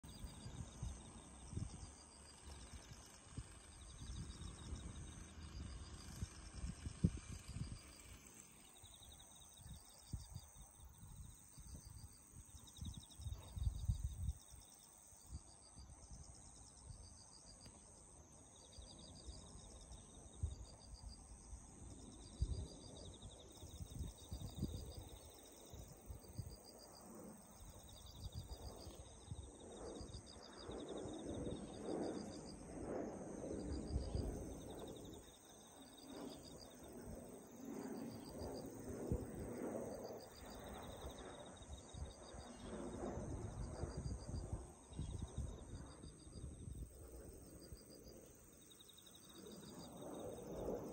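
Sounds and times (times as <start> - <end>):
insects chirping in trills: 0.0 - 50.9
wind rumbling on microphone: 0.1 - 17.7, 18.9 - 50.9.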